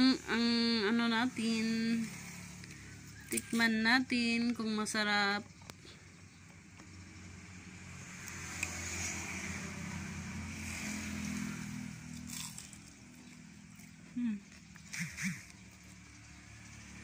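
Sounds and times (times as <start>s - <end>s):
vehicle passing by: 0.0s - 5.0s, 5.7s - 17.0s.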